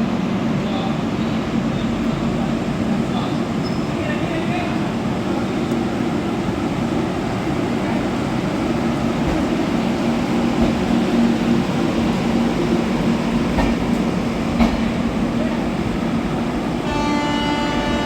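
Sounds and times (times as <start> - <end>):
passenger train running: 0.0 - 18.0.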